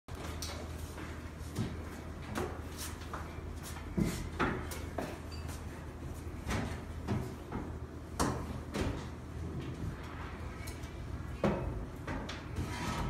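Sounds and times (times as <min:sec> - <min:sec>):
low room hum: 0:00.1 - 0:13.0.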